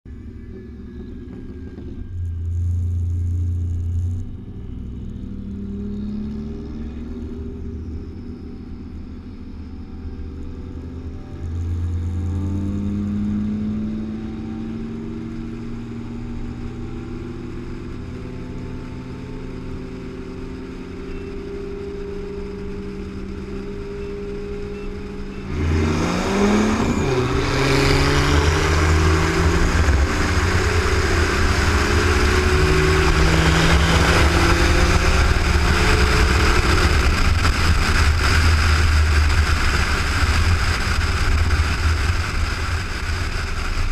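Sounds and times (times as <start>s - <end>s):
car engines accelerating: 0.1s - 43.9s
wind and road noise: 0.1s - 43.9s.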